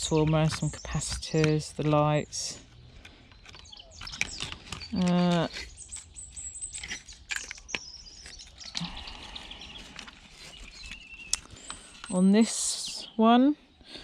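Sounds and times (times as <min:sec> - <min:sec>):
faint bird chirps: 0:02.6 - 0:14.0.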